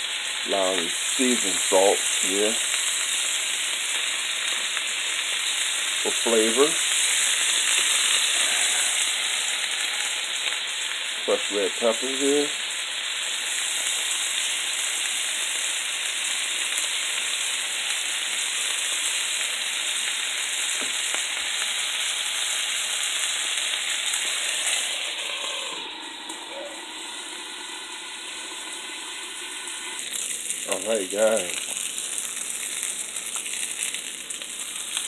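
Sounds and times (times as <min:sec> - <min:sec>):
patties sizzling in a frying pan: 0:00.0 - 0:35.0.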